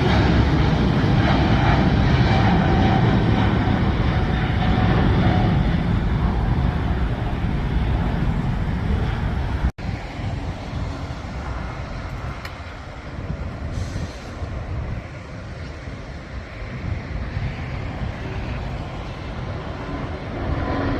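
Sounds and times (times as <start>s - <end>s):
jet engines rumbling at take-off: 0.0s - 20.9s.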